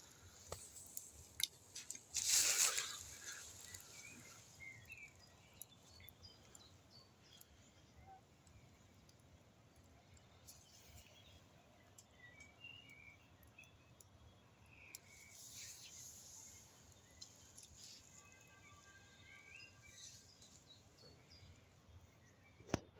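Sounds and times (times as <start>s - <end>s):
burning wood crackling: 0.0s - 22.2s.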